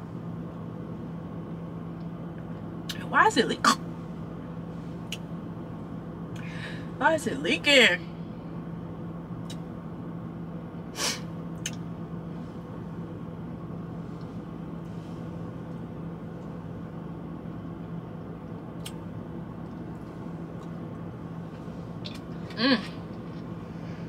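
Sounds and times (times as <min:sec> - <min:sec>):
low mechanical hum in truck cab: 0:00.0 - 0:24.0.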